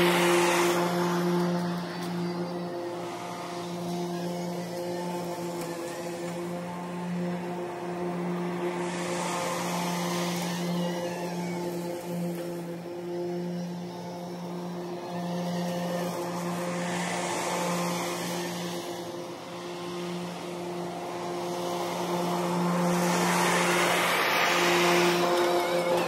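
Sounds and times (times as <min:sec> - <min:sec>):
electric mower motors whirring: 0:00.0 - 0:26.0
swish of grass being cut: 0:00.0 - 0:26.0.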